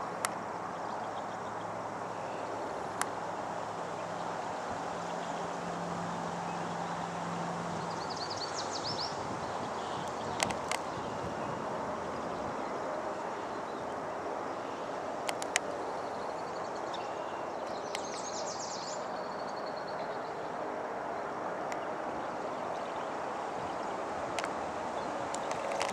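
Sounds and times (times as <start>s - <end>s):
steady rushing background noise: 0.0s - 25.9s.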